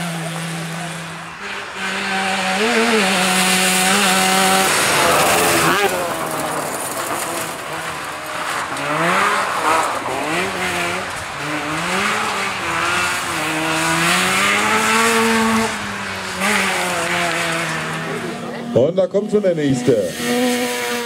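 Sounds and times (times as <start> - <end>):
two-stroke car engine revving: 0.0 - 21.0.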